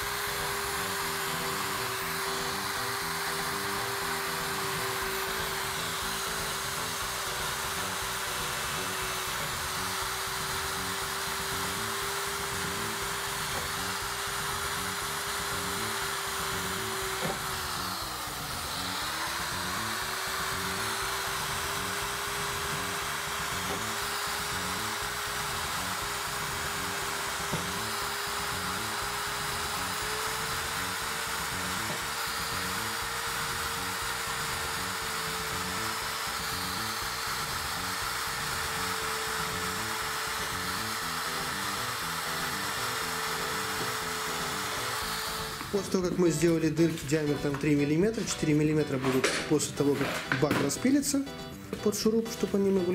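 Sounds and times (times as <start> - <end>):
electric drill boring through plastic: 0.0 - 51.2.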